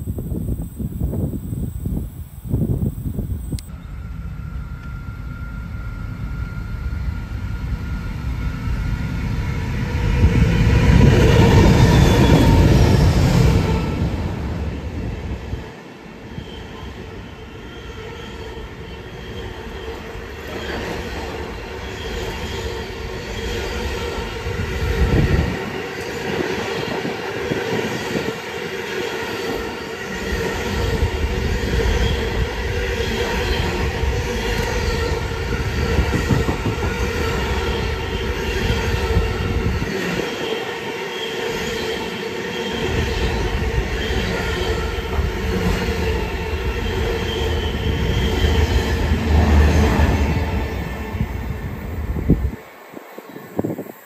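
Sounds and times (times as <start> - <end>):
train wheel squeal: 3.0 - 14.2, 14.9 - 54.0.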